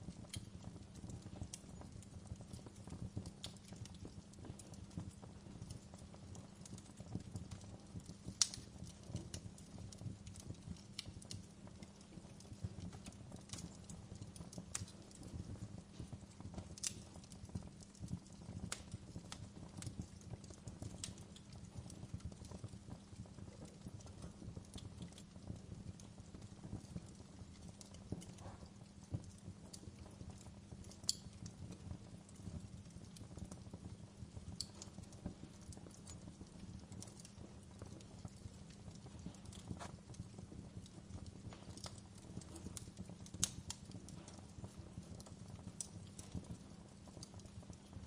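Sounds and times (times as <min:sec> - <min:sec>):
wood fire crackling: 0:00.0 - 0:48.0
sharp pops of fire: 0:00.2 - 0:47.5.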